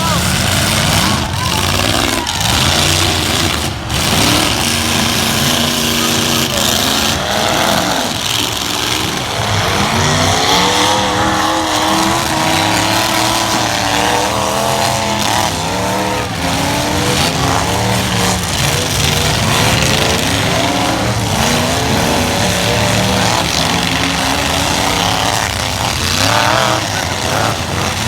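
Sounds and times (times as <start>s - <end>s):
truck engines revving hard: 0.0s - 28.0s.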